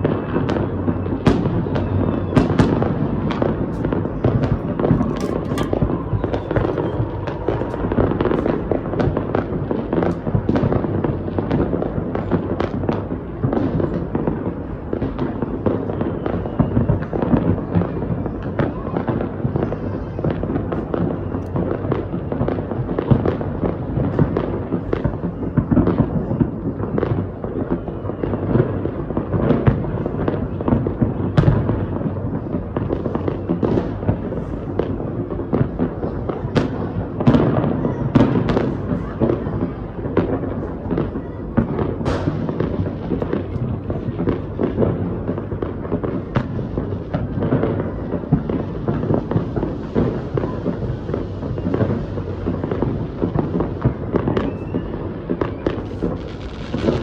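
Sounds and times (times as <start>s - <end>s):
fireworks bangs and crackles: 0.0s - 57.0s
loud sharp firework reports: 0.0s - 57.0s.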